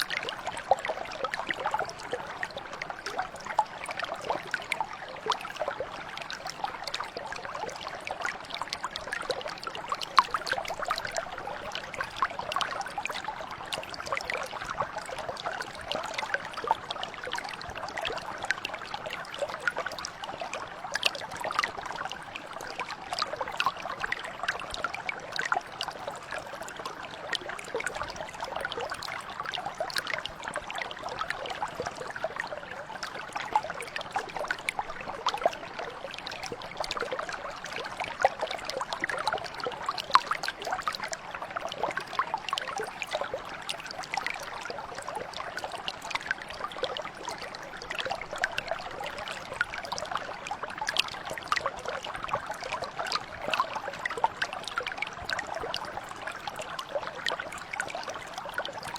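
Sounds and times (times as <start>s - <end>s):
brook babbling: 0.0s - 58.9s.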